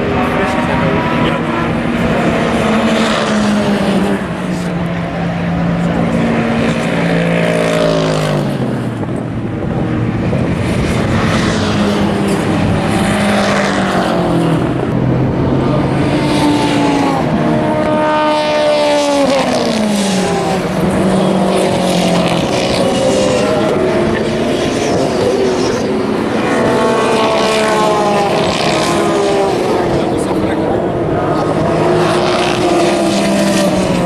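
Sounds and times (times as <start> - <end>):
race car engines passing by: 0.0 - 34.0.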